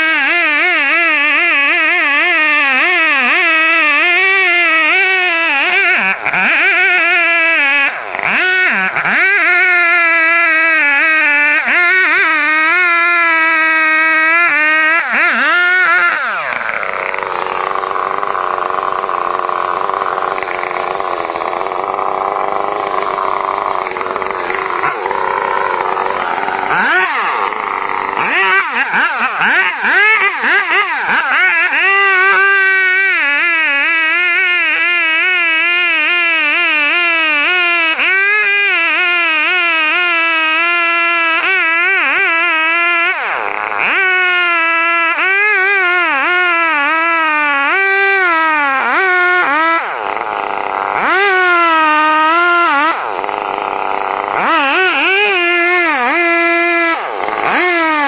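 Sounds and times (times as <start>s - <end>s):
chainsaw cutting: 0.0s - 58.0s.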